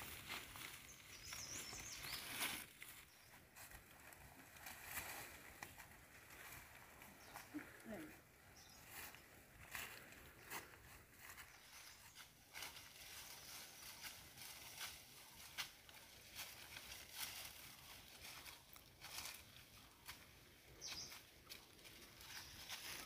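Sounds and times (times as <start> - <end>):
footsteps through dry leaves: 0.0 - 23.0
rustle of carried leafy bundles: 0.0 - 23.0.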